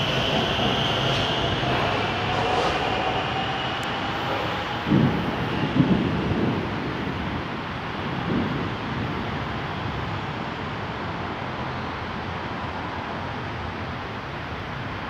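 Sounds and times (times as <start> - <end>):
metro train rumbling on elevated track: 0.0 - 15.0.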